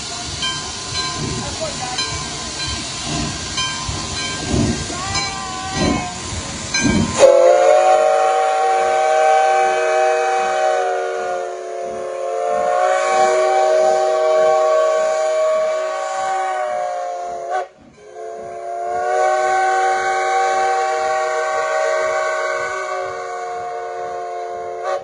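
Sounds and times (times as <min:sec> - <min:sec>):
locomotive exhaust chuffs: 0:00.0 - 0:25.0
steam locomotive whistle: 0:04.9 - 0:25.0.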